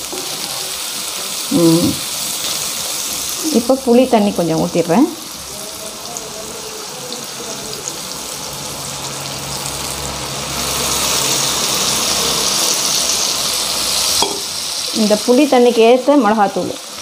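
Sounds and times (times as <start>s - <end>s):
pan sizzling and hissing: 0.0s - 17.0s.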